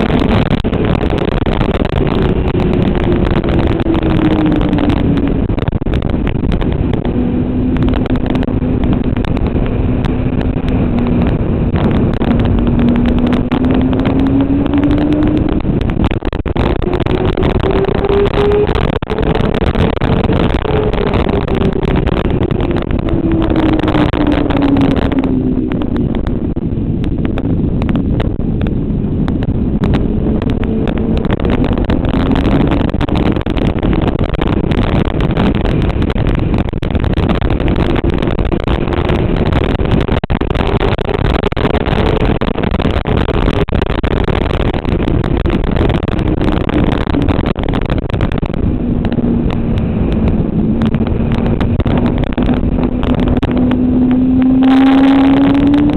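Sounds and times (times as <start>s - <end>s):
motorcycle engine accelerating: 0.0s - 55.9s
wind noise: 0.0s - 55.9s.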